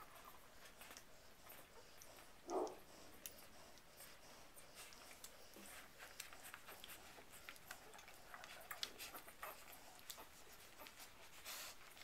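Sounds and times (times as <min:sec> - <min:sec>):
puppies suckling: 0:00.0 - 0:12.0.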